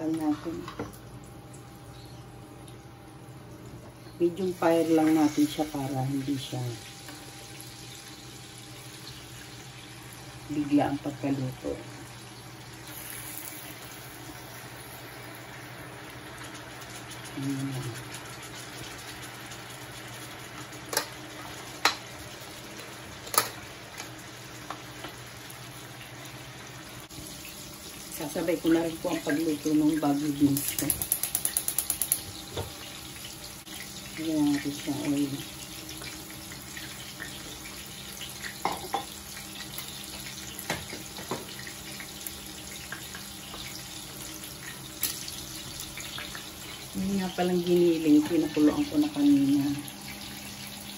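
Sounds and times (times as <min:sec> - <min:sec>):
fish frying in butter: 0:04.2 - 0:50.9.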